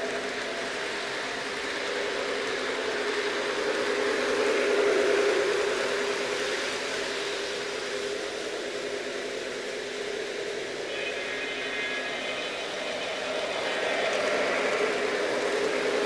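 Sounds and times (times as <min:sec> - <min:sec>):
model train motor hum: 0:00.0 - 0:16.0
wheels rolling on track: 0:00.0 - 0:16.0.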